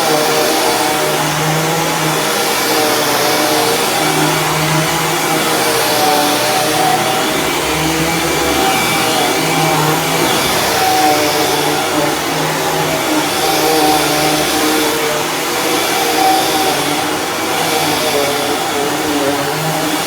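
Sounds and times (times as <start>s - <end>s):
vacuum cleaner on carpet: 0.0s - 20.0s.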